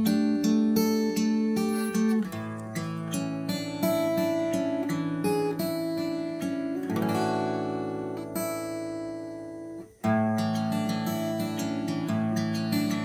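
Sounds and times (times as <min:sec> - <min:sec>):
instrumental music: 0:00.0 - 0:13.0.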